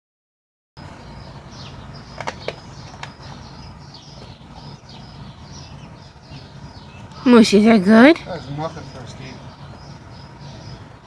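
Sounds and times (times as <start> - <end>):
low steady hum: 0.8 - 11.0
small birds chirping: 0.8 - 11.0.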